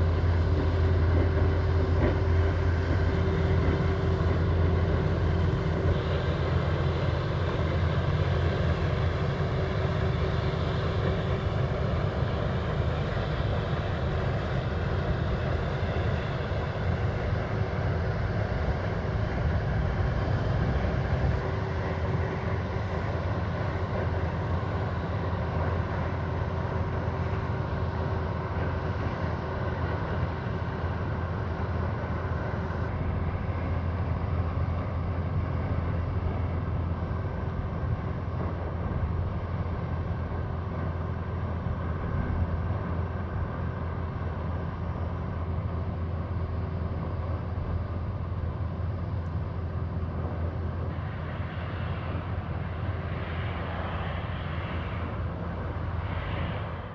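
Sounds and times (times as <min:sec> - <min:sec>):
diesel engine drone: 0:00.0 - 0:56.9.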